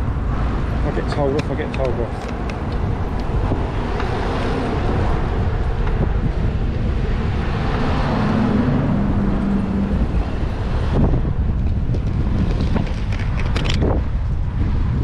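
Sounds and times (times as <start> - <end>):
road traffic passing: 0.0 - 15.0
vehicle engine hum: 0.0 - 15.0
wind buffeting microphone: 0.0 - 15.0.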